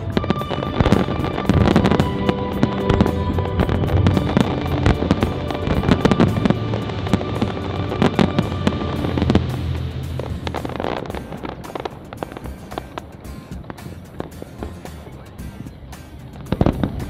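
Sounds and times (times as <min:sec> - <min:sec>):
fireworks bangs and crackling: 0:00.0 - 0:17.0
music: 0:00.0 - 0:17.0.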